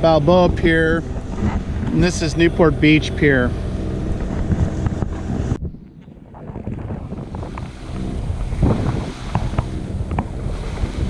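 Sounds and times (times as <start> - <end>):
boat engine running: 0.0 - 11.0
water washing past hull: 0.0 - 11.0
wind buffeting microphone: 0.0 - 11.0.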